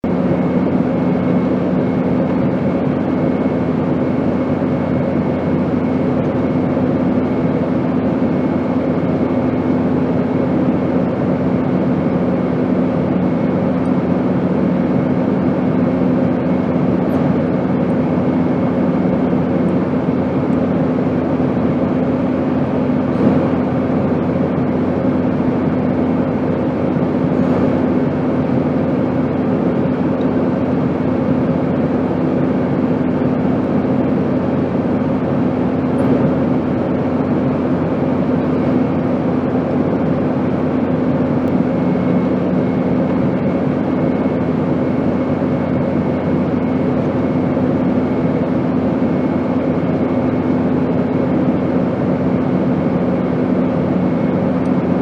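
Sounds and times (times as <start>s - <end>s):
airplane noise: 0.0s - 55.0s.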